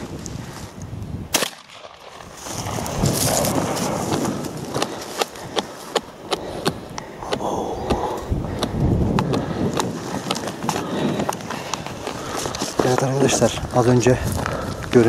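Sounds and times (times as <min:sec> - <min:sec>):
footsteps crunching through frosty grass: 0:00.0 - 0:06.9, 0:08.1 - 0:15.0.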